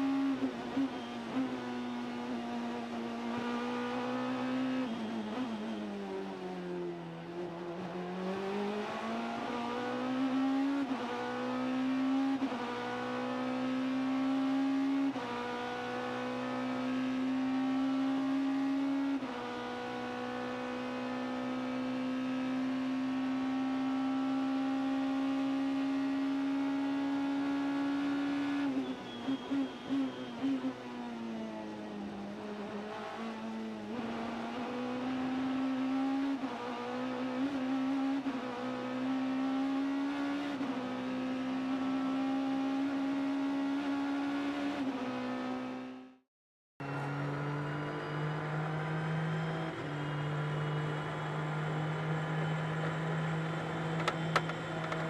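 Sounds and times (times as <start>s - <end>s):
race car engine at speed: 0.0s - 46.2s, 46.8s - 55.0s.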